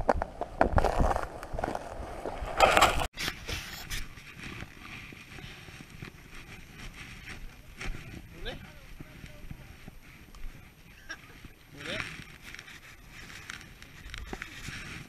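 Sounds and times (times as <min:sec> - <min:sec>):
footsteps crunching on ice: 0:00.0 - 0:15.0
wind rustling on microphone: 0:00.0 - 0:15.0.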